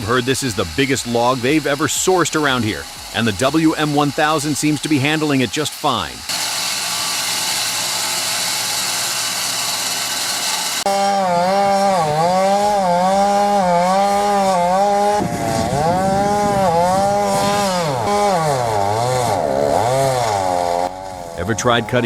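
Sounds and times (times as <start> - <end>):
band sawmill cutting log: 0.0 - 22.0
chainsaw cutting at full throttle: 0.0 - 22.0.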